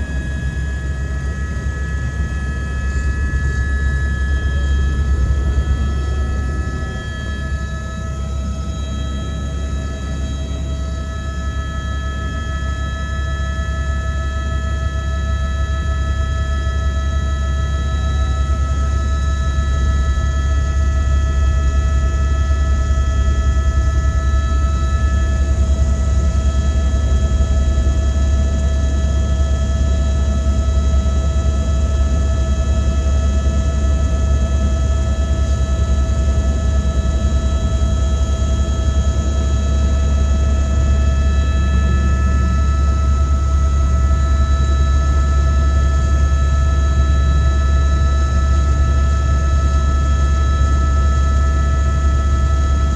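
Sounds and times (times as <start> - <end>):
helicopter rotor drone: 0.0 - 52.9
high-pitched turbine whine: 0.0 - 52.9.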